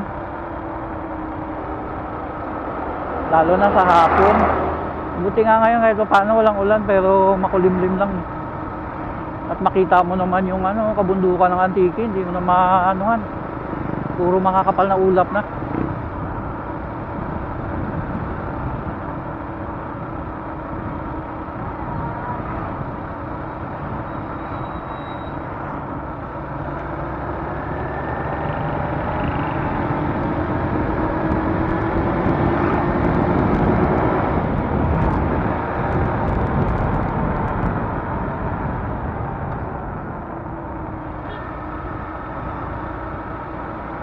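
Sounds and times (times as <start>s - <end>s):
road and wind noise: 0.0s - 44.0s.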